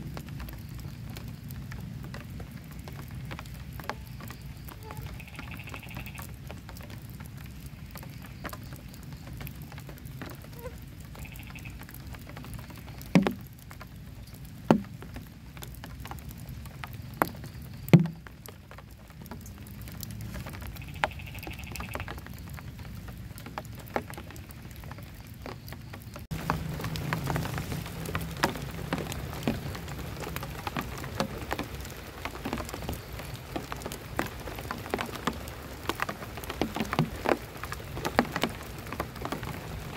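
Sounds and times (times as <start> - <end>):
loud single raindrops: 0.0 - 39.9
steady rain falling: 0.0 - 39.9.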